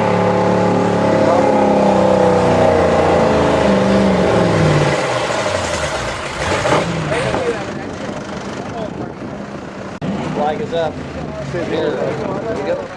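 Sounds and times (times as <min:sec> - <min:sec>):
truck engine running hard: 0:00.0 - 0:12.9.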